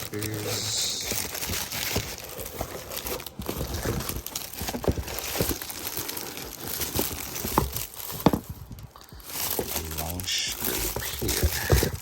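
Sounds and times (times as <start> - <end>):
wrapping crinkling and rustling: 0.0 - 12.0.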